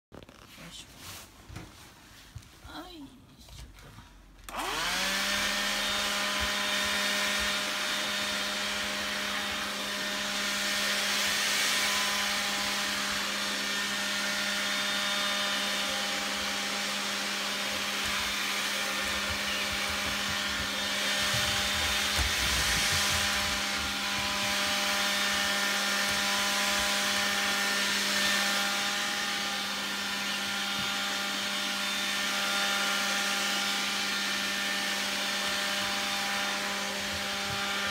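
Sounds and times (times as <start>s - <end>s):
vacuum cleaner running: 4.4s - 37.9s.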